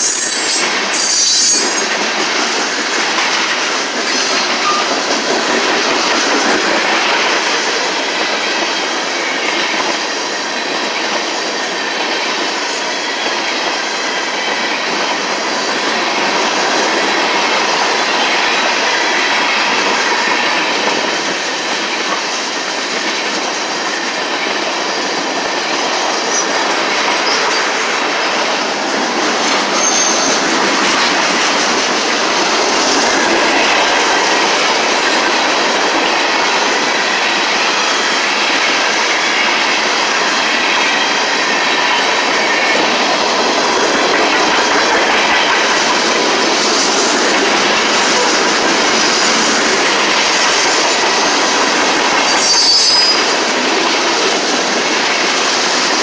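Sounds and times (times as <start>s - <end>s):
steel wheels rushing on rail: 0.0s - 56.0s.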